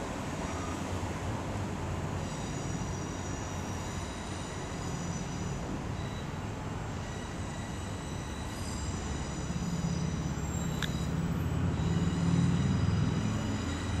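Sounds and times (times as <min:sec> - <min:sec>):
faint high whine: 0:00.0 - 0:14.0
train engine rumble: 0:00.0 - 0:14.0.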